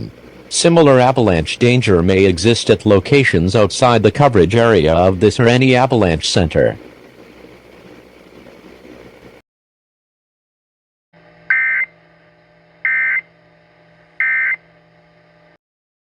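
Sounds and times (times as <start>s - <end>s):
faint steady hum: 0.0s - 9.4s, 11.2s - 15.6s.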